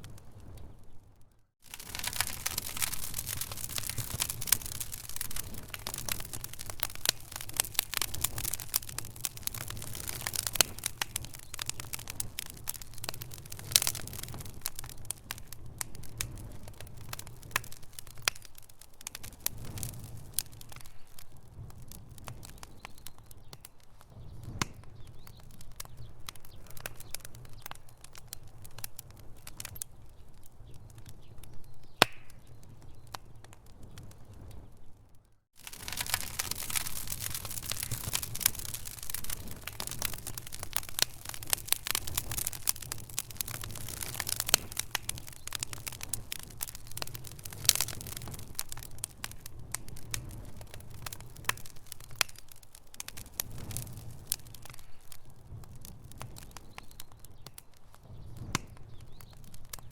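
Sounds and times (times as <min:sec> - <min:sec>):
low rumble of fire: 0:00.0 - 0:59.9
wood fire crackling: 0:00.0 - 0:59.9.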